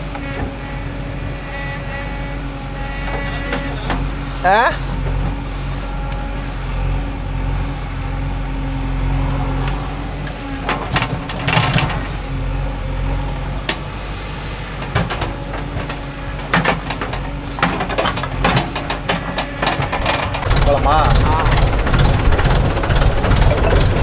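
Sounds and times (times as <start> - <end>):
clanks and knocks: 0.0 - 24.0
diesel engine running: 0.0 - 24.0.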